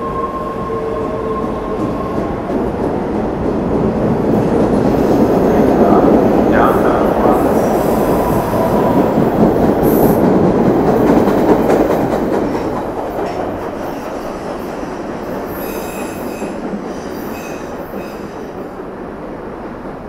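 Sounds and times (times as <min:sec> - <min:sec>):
train running past on rails: 0:00.0 - 0:20.0.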